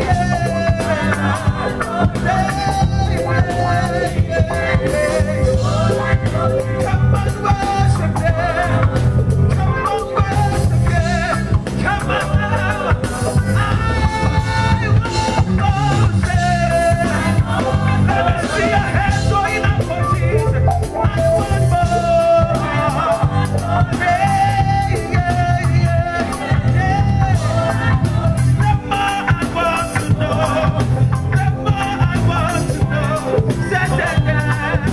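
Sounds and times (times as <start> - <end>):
live band playing: 0.0 - 34.9
voices singing: 0.0 - 34.9.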